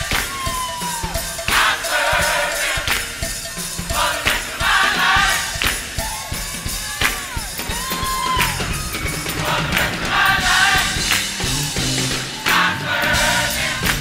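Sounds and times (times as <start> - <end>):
drum kit beat: 0.0 - 14.0
gospel choir singing: 0.0 - 14.0
live band: 0.0 - 14.0.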